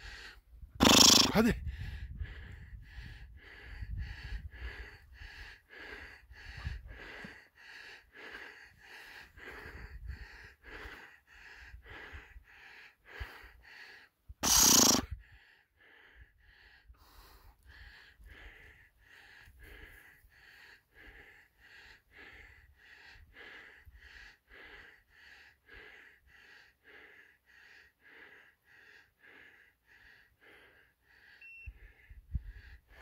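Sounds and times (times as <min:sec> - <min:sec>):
heavy panting breaths: 0:00.0 - 0:33.0.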